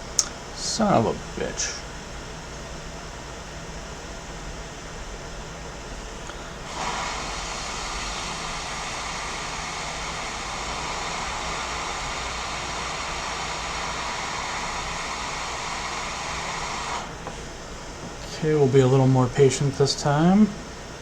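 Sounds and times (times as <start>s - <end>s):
hot air station hissing: 0.0s - 3.5s, 4.7s - 21.0s.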